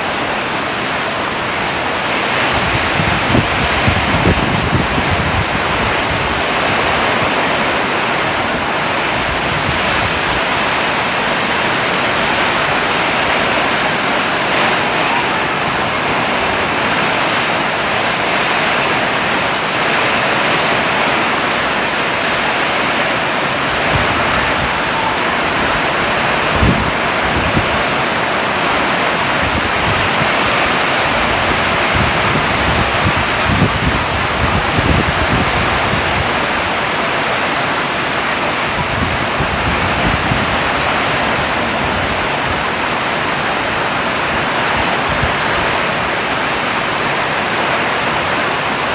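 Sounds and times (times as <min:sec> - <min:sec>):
wind buffeting microphone: 0:00.0 - 0:47.2
heavy rain pouring: 0:00.0 - 0:48.9.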